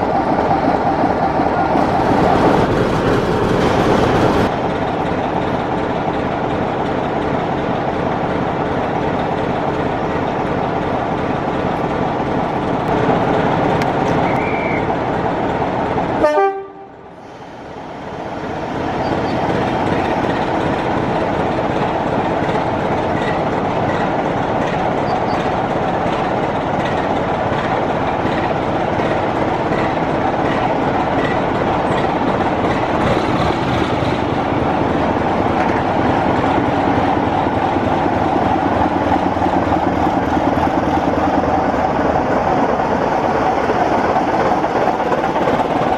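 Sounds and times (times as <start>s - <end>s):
train running on tracks: 0.0s - 45.9s.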